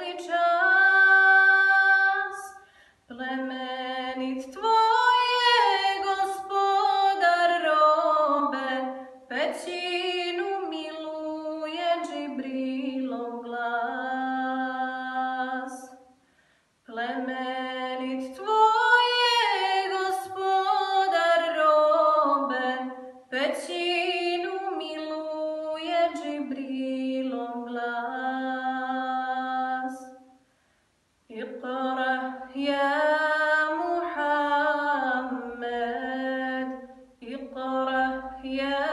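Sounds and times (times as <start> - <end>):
woman singing unaccompanied: 0.0 - 16.1, 16.9 - 30.3, 31.3 - 38.9.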